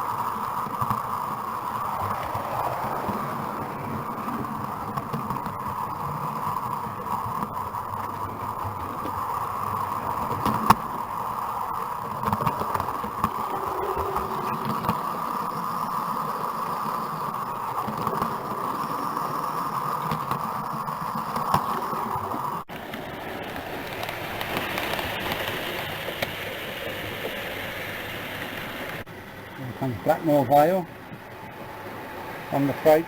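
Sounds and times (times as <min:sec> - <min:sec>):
model train rolling on track: 0:00.0 - 0:33.0.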